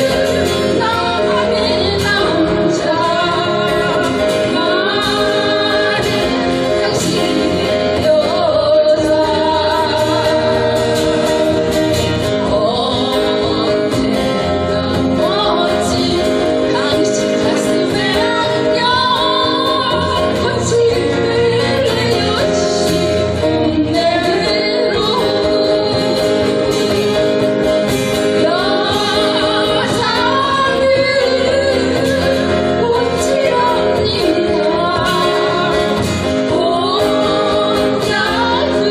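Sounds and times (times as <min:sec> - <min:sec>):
live band with guitar: 0:00.0 - 0:38.9
woman singing: 0:00.0 - 0:38.9.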